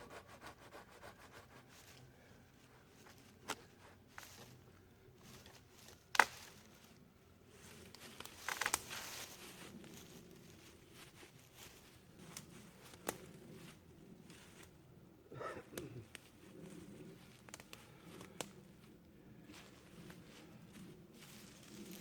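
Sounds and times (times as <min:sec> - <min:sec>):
rustling and crinkling: 0:01.6 - 0:14.8, 0:16.0 - 0:22.0.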